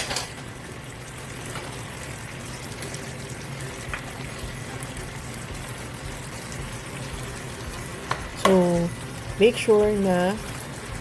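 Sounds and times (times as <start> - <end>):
sauce simmering and bubbling: 0.3 - 11.0.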